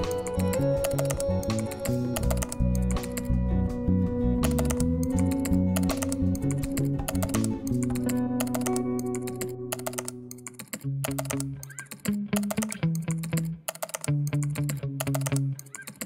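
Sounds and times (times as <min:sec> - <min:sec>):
keyboard typing clicks: 0:00.0 - 0:03.4, 0:04.4 - 0:16.0
background music: 0:00.0 - 0:15.7.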